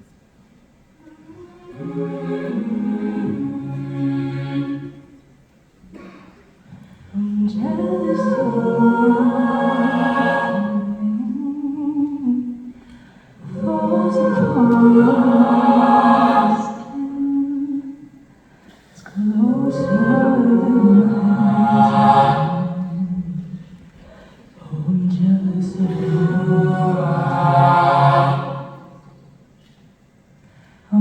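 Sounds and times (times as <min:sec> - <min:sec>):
a cappella group singing chords: 0:01.0 - 0:29.4, 0:30.6 - 0:31.0.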